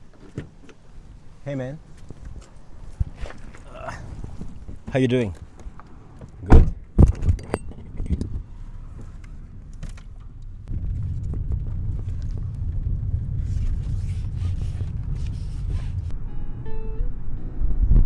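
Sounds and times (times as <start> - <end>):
car rumbling: 0.0 - 18.0.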